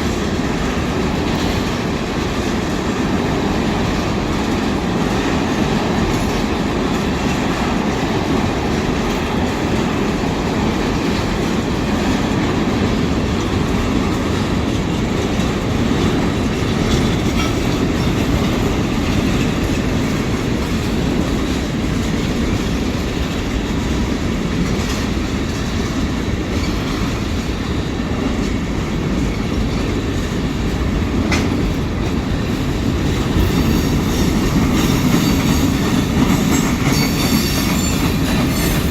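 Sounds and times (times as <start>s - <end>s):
train wheels rumbling on rails: 0.0s - 38.9s
wheels clicking over rail joints: 0.0s - 38.9s.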